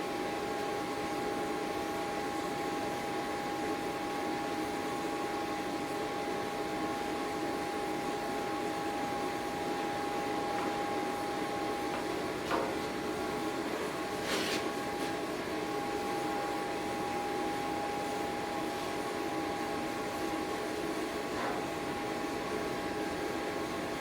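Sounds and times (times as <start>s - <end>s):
workshop machine humming: 1.8s - 24.0s.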